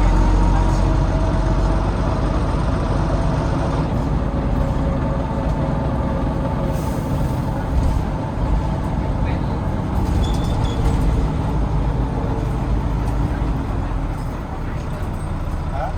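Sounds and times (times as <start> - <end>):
bus diesel engine running: 0.0 - 15.9
road noise rumble: 0.0 - 15.9.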